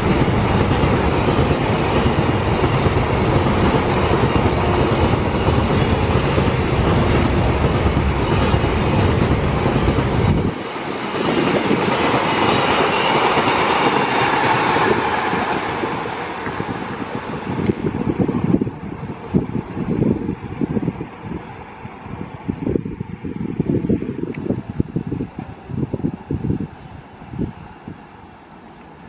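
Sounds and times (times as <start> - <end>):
freight train wheels on rails: 0.0 - 29.0.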